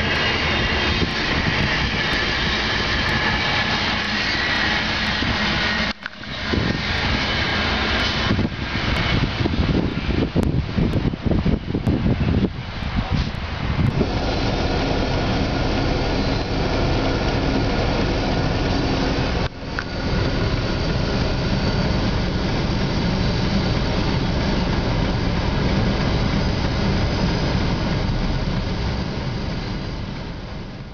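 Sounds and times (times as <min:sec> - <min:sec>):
train wheels rolling on rail: 0:00.0 - 0:30.9.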